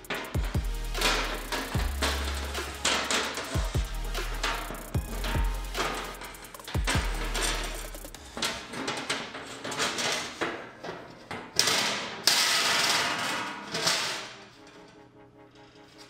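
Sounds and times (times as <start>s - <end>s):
metal plate clanks and knocks: 0.0s - 14.4s
metallic scraping: 0.0s - 16.0s.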